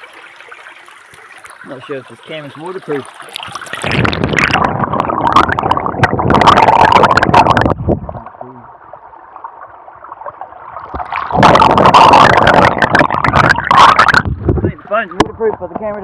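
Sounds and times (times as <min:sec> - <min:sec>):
creek water splashing and gurgling: 0:00.0 - 0:15.4.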